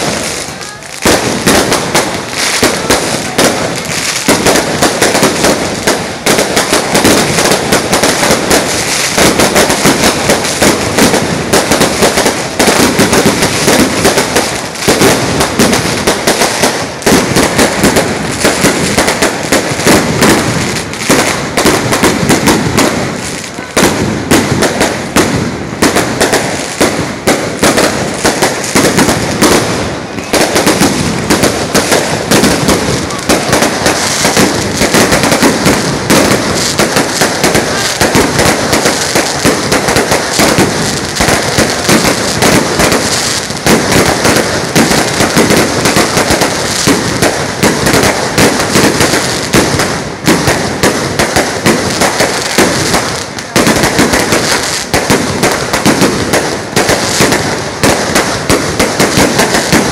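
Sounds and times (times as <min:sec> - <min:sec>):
firecrackers crackling: 0:00.0 - 0:59.9.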